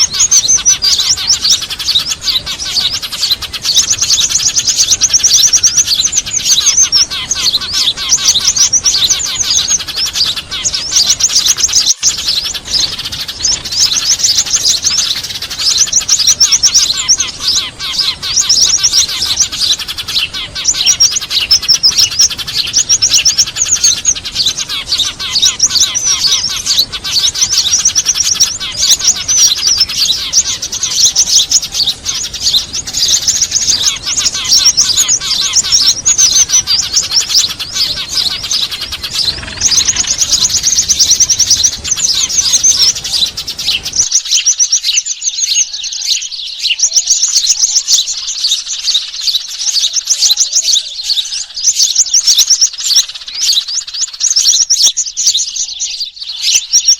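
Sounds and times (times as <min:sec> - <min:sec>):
small birds chattering: 0:00.0 - 0:56.9.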